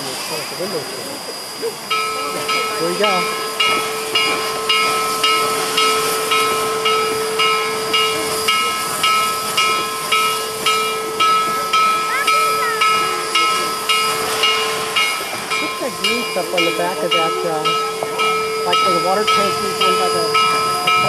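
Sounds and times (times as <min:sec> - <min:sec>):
steam hissing: 0:00.0 - 0:21.0
steam locomotive bell ringing: 0:00.0 - 0:21.0.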